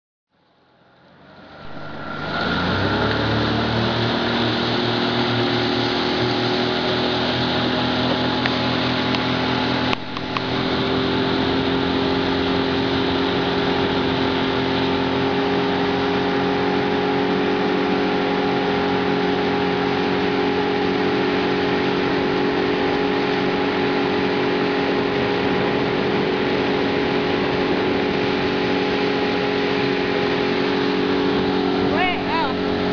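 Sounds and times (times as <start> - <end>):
outboard motor running: 1.4 - 32.9.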